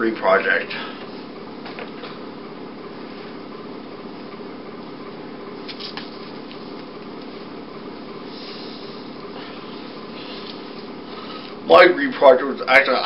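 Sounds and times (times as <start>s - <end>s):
fan hiss and hum: 0.0s - 13.0s.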